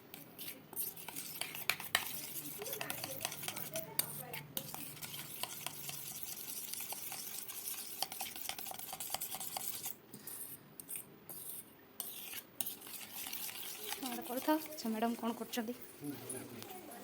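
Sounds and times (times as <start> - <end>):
metal spatula scraping a pan: 0.0 - 16.6.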